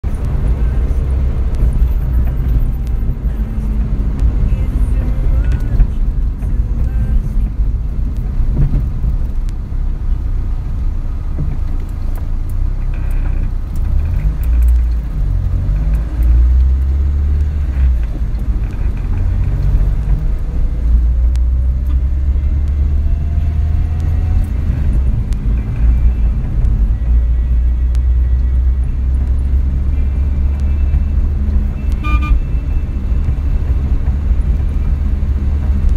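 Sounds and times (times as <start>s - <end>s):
car road and engine rumble: 0.0s - 35.9s.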